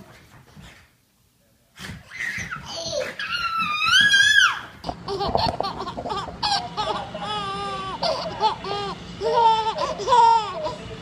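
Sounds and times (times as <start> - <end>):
babies laughing: 2.1 - 11.0.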